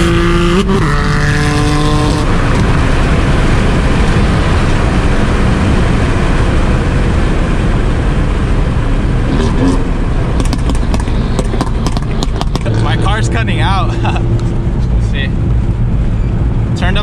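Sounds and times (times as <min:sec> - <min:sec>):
car engine pulling hard: 0:00.0 - 0:17.0
wind and road noise: 0:00.0 - 0:17.0.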